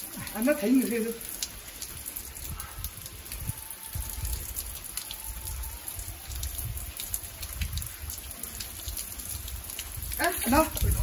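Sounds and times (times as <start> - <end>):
shower water splashing: 0.0 - 11.0.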